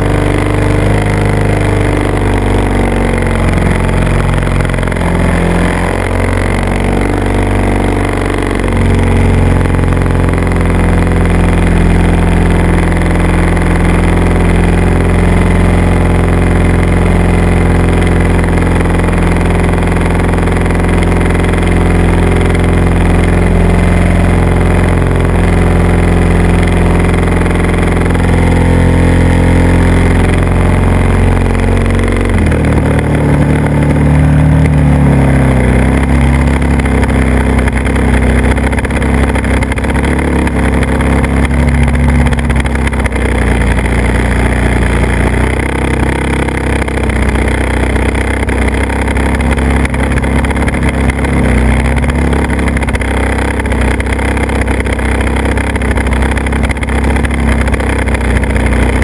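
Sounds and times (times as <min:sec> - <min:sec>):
aircraft engine running: 0:00.0 - 0:59.0.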